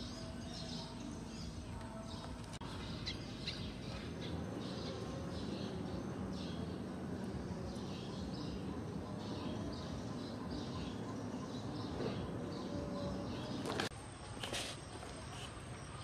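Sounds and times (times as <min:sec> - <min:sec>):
sparrows chirping: 0:00.0 - 0:13.9.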